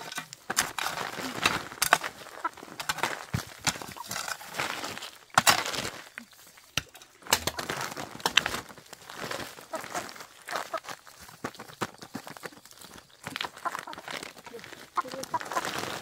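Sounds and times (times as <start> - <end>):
crunching and cracking: 0.0 - 16.0.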